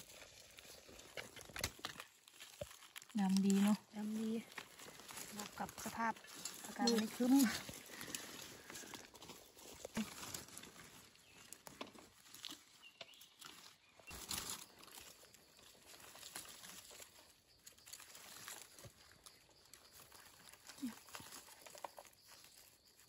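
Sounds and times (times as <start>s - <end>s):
dry leaves rustling underfoot: 0.0s - 23.0s.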